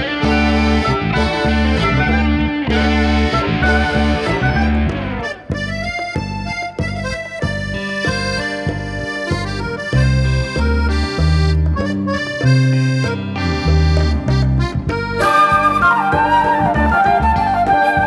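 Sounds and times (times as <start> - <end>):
accordion playing a melody: 0.0 - 18.0
bass line: 0.0 - 18.0.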